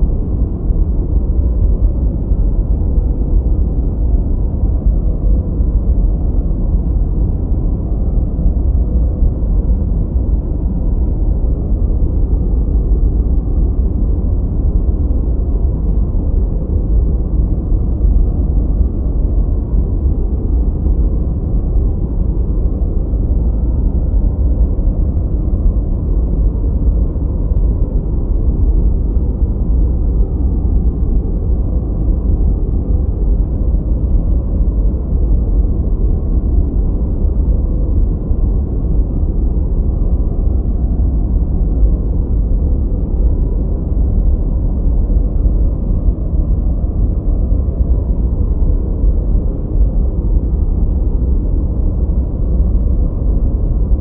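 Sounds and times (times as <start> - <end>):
deep muffled white noise: 0.0 - 54.0.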